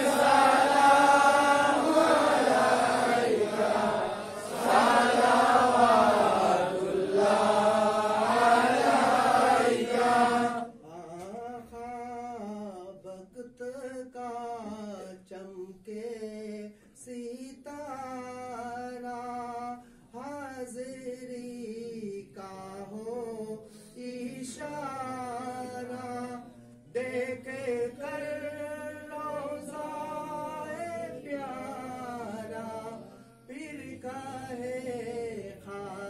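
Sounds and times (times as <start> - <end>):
men chanting devotional song: 0.0 - 36.0.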